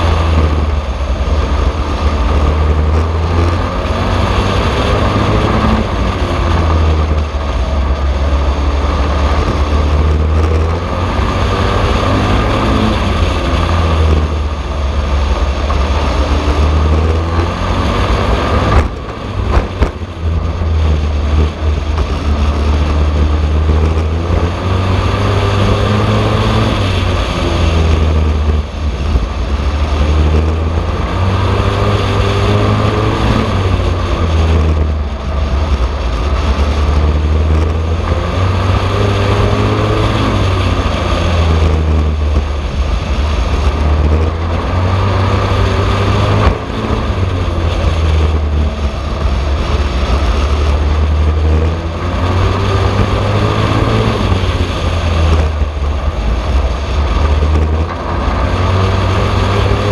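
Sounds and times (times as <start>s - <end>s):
racing truck engine revving: 0.0s - 59.9s.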